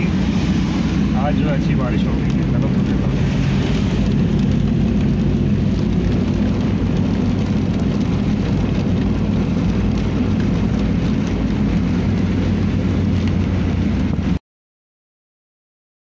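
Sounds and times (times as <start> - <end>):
car engine and tyre drone: 0.0 - 14.4
rain hitting windscreen: 0.0 - 14.4.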